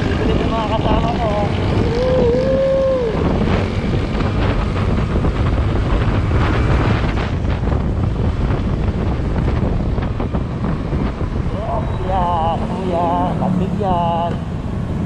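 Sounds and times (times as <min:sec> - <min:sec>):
road noise: 0:00.0 - 0:15.0
scooter engine: 0:00.0 - 0:15.0
wind rushing over microphone: 0:00.0 - 0:15.0.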